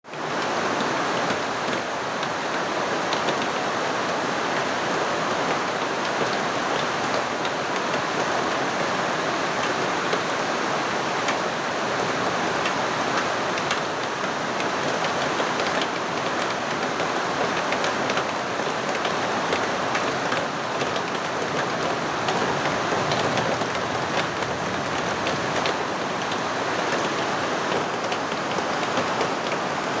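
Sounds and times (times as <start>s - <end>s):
rain falling steadily: 0.1s - 30.0s.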